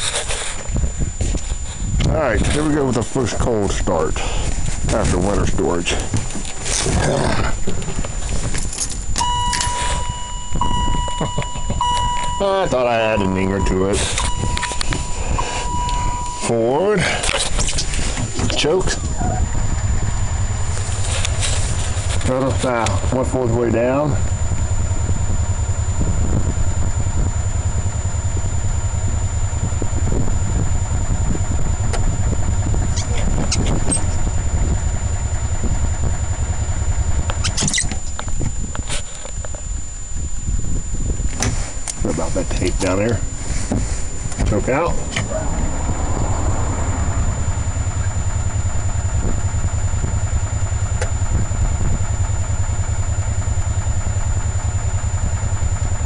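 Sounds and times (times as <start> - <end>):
golf cart engine running: 0.0 - 56.0.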